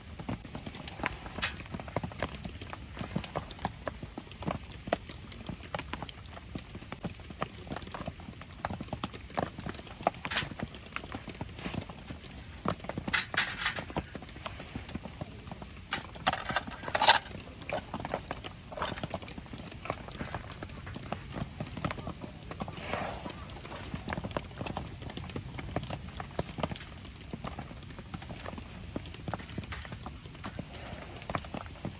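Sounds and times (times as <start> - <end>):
campfire crackling and popping: 0.0 - 31.9
rain: 0.0 - 31.9.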